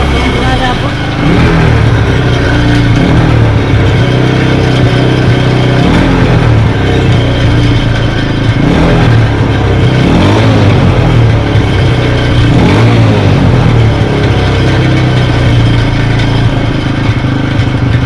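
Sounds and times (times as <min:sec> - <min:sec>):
exhaust rattling: 0:00.0 - 0:18.0
motorcycle engine revving: 0:00.0 - 0:18.0.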